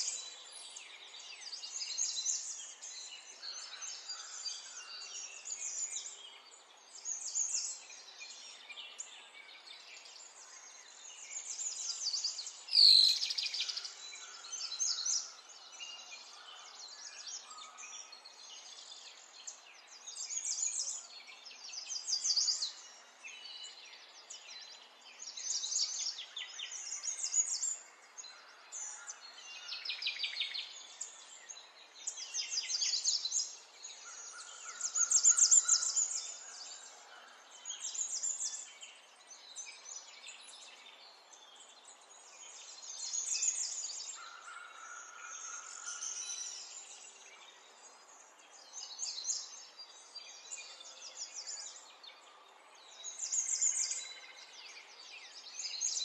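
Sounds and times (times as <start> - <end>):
songbird chirping and trilling: 0.0 - 56.0.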